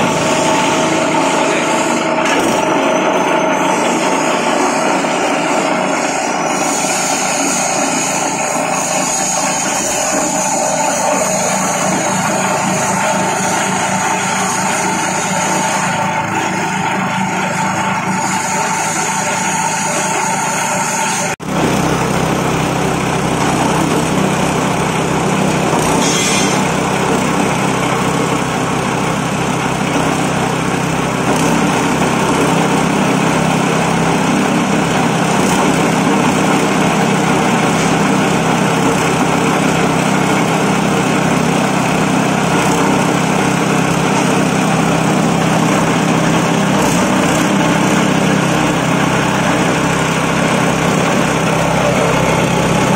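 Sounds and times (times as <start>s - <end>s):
chopper machine droning: 0.0s - 52.9s.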